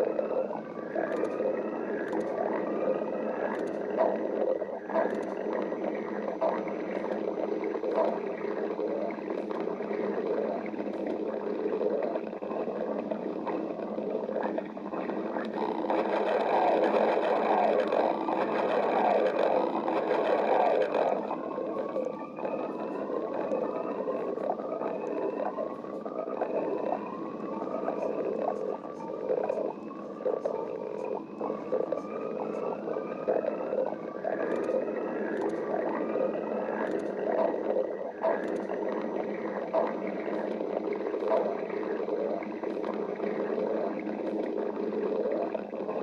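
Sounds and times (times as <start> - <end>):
squeaky stomach whines: 0.0 - 46.0
stomach gurgling and rumbling: 0.0 - 46.0.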